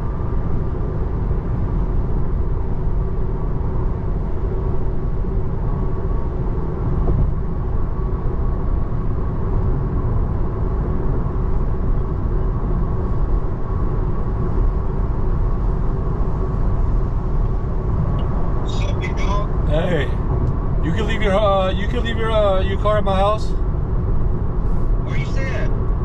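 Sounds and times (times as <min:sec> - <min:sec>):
road and tyre noise: 0:00.0 - 0:26.0.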